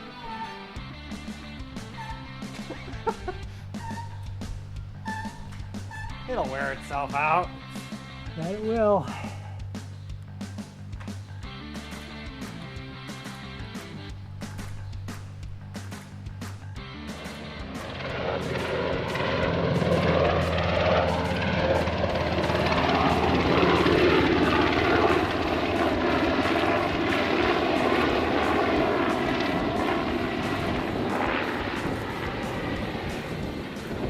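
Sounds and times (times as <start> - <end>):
propeller airplane flying past: 0.0 - 34.0.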